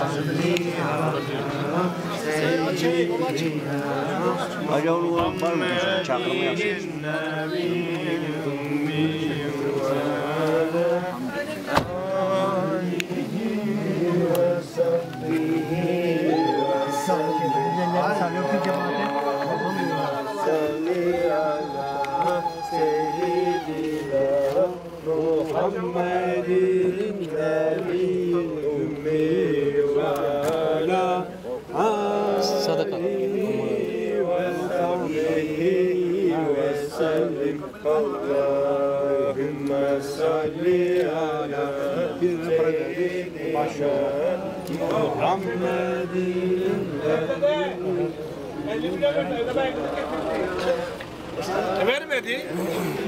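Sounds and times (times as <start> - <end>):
men chanting together: 0.0 - 53.0.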